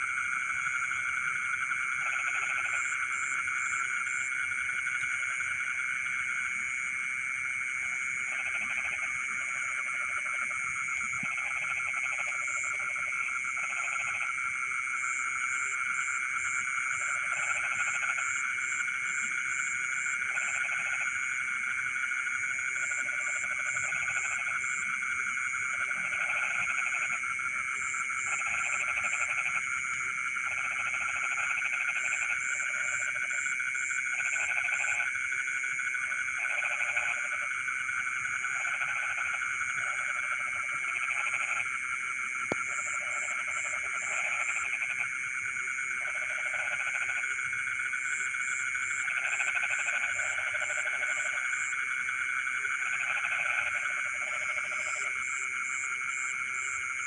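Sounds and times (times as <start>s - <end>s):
frogs calling: 0.0s - 57.0s
low rattling frog calls: 0.0s - 57.0s.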